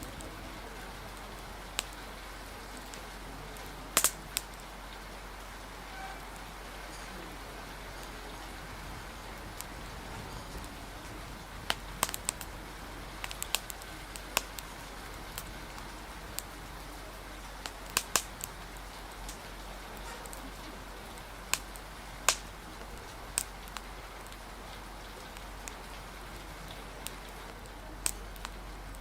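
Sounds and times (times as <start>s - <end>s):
rain hissing: 0.0s - 29.0s
wood fire crackling and popping: 0.0s - 29.0s.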